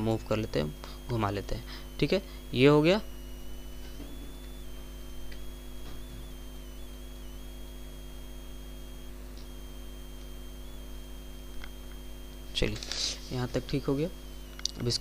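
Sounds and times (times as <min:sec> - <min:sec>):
electrical mains hum: 0:00.0 - 0:15.0
high-pitched whine: 0:00.0 - 0:15.0.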